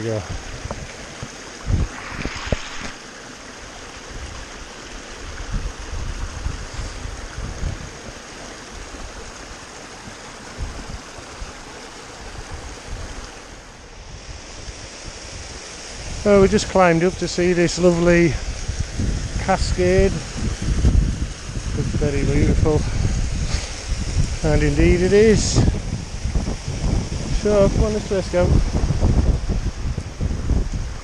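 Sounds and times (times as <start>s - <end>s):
wind buffeting the microphone: 0.0s - 3.1s, 4.0s - 31.0s
stream running over stones: 0.0s - 31.0s.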